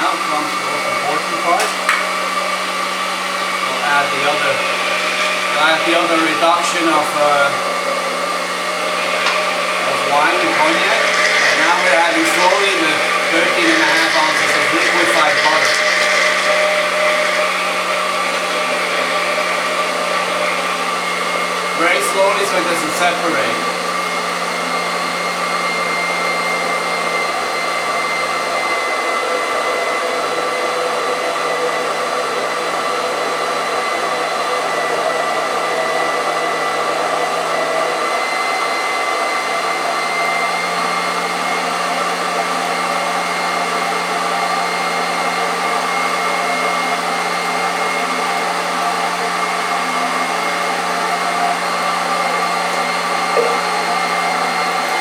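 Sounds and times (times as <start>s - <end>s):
electric blender running: 0.0s - 55.0s.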